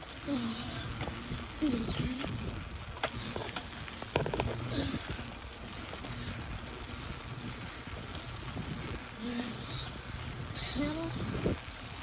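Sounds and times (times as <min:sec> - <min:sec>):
bicycle rumble: 0:00.0 - 0:12.0
wind buffeting microphone: 0:00.1 - 0:12.0.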